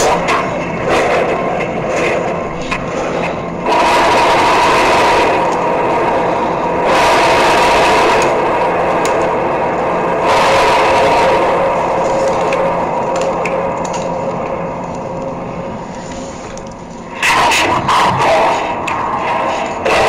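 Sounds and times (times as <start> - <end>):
drone of hum tones: 0.0 - 20.0
rushing noise: 0.0 - 20.0.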